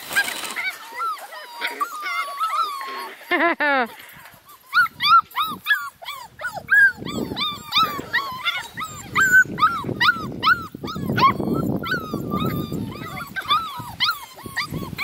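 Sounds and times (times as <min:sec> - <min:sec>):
puppies yipping and whining: 0:00.0 - 0:15.0.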